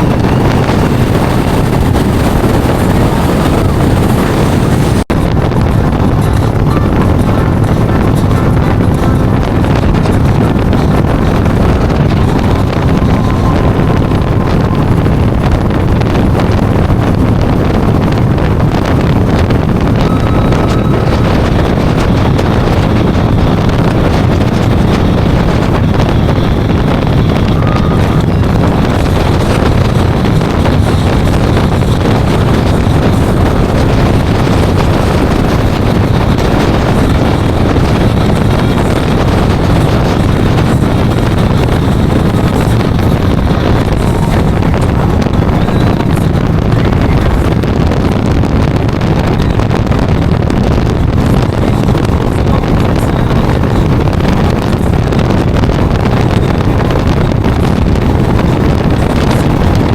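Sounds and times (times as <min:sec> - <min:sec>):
motorcycle engine: 0:00.0 - 0:59.9
road noise: 0:00.0 - 0:59.9
wind rushing over microphone: 0:00.0 - 0:59.9.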